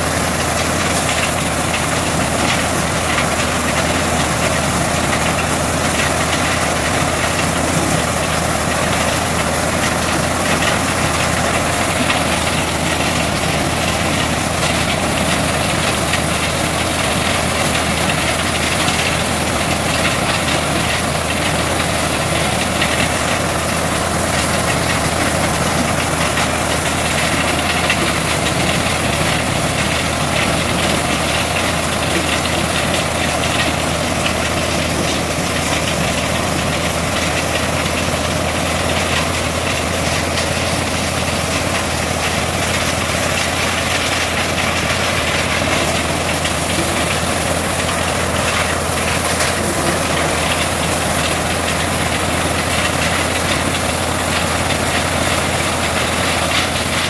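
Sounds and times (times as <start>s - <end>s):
corn sheller threshing: 0.0s - 57.0s
tractor engine running: 0.0s - 57.0s.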